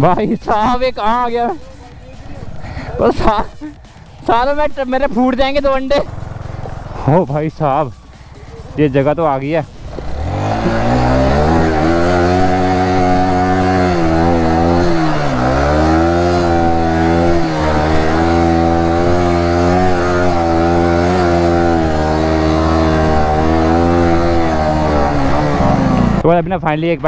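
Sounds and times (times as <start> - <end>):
motorcycle engine running: 0.0 - 26.3.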